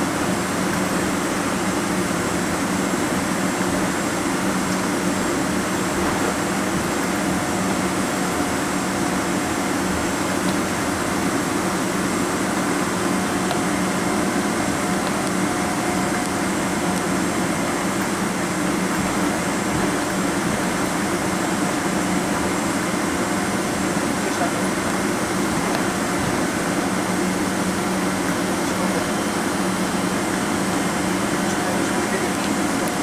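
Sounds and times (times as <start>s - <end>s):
jet engines idling in cabin: 0.0s - 33.0s.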